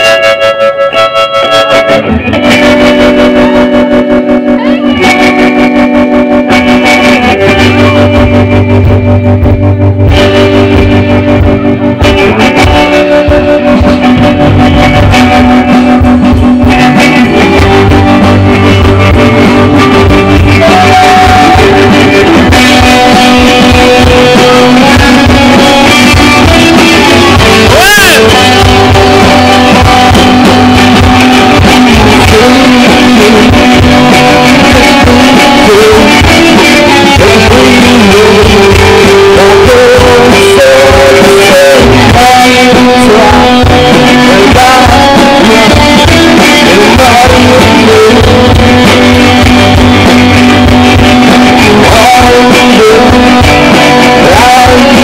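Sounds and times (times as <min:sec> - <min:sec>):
bass guitar: 0:00.0 - 0:55.0
drums: 0:00.0 - 0:55.0
electric guitars: 0:00.0 - 0:55.0.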